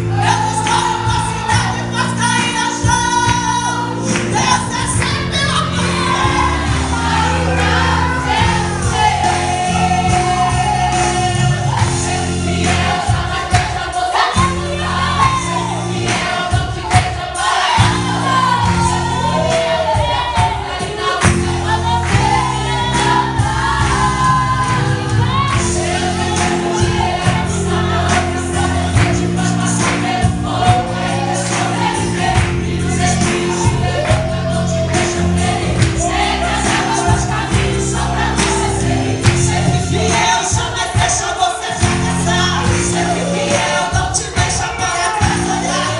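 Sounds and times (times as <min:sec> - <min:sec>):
live band accompaniment: 0:00.0 - 0:45.9
voices singing together: 0:00.0 - 0:45.9.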